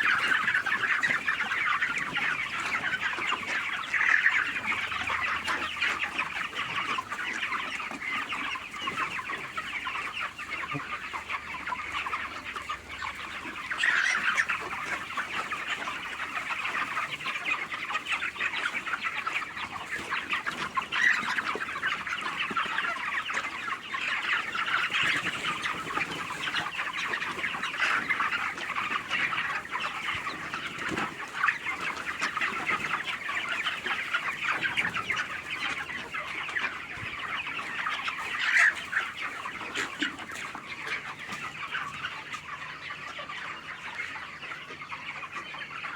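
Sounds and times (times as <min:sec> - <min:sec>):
flock of chickens calling: 0:00.0 - 0:45.9.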